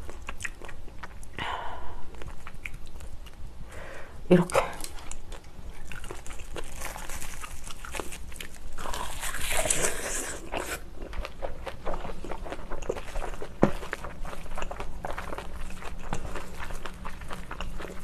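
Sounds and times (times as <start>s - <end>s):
chewing with wet clicks: 0.0s - 1.4s, 2.1s - 3.4s, 4.4s - 9.8s, 10.5s - 18.0s.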